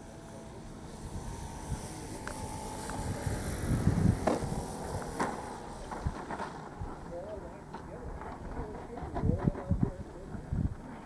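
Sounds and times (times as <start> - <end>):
model airplane engine: 0.0 - 11.0.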